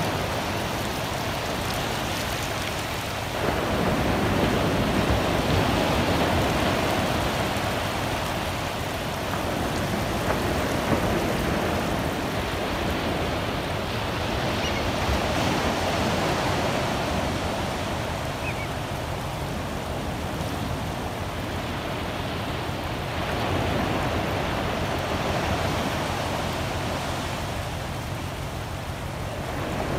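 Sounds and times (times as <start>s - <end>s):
small waves breaking on beach: 0.0s - 29.9s.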